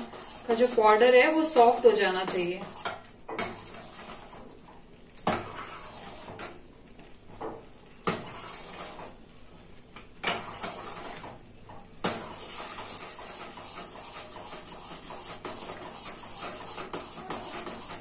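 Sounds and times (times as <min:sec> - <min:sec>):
spoon stirring thick mixture: 0:00.0 - 0:18.0.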